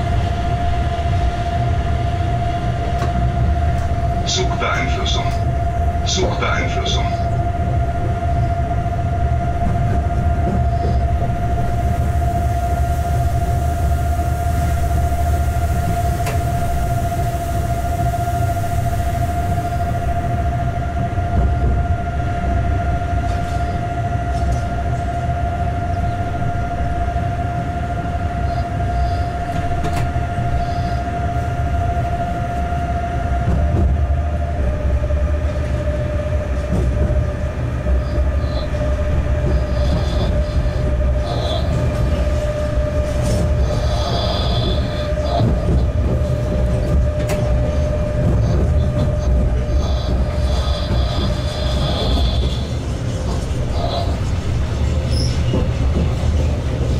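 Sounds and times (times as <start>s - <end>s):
constant whine: 0.0s - 56.9s
locomotive cab rumble: 0.0s - 56.9s.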